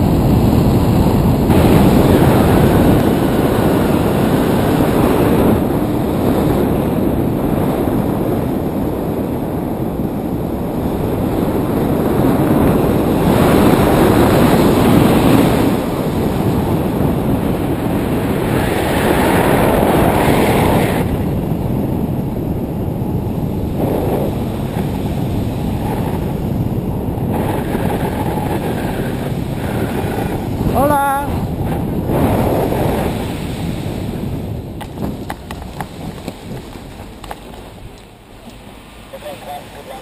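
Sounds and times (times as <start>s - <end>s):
wind roaring over microphone: 0.0s - 40.0s.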